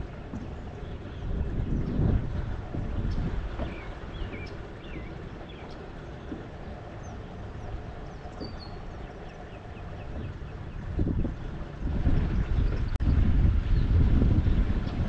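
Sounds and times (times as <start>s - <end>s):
birds chirping: 0.0s - 15.0s
wind rumbling on microphone: 0.0s - 15.0s.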